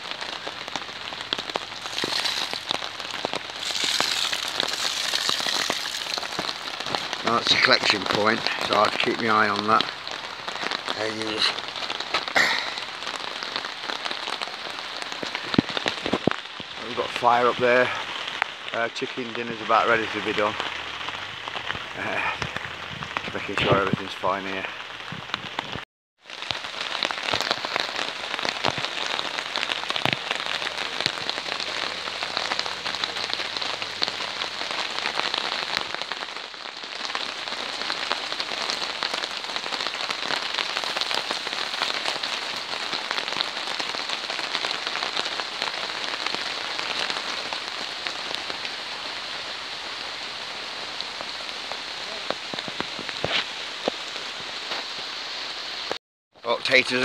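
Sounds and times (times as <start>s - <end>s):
heavy rain on a tarp: 0.0s - 57.0s.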